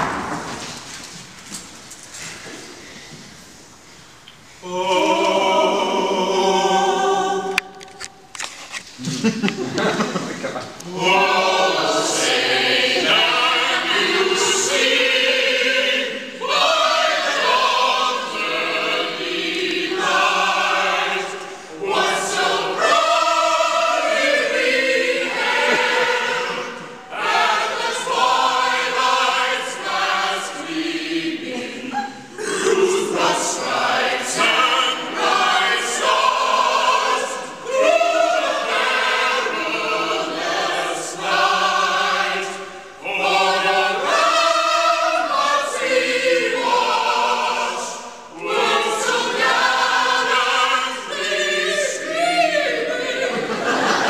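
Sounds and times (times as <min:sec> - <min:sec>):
choir singing: 0:04.6 - 0:08.4, 0:09.0 - 0:54.0.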